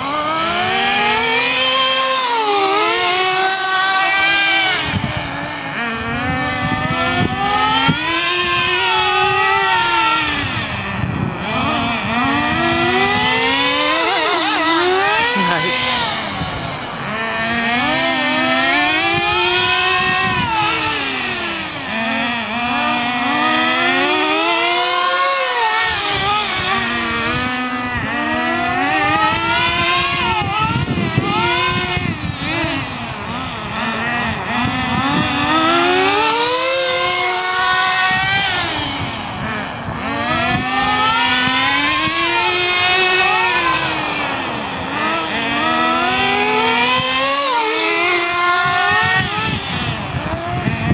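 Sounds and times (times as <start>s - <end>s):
rc car engines whining: 0.0s - 50.9s.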